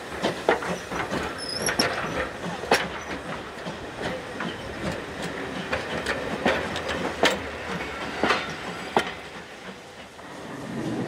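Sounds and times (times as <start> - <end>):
train rumble: 0.0 - 11.0
train wheels clicking over rail joints: 0.0 - 11.0.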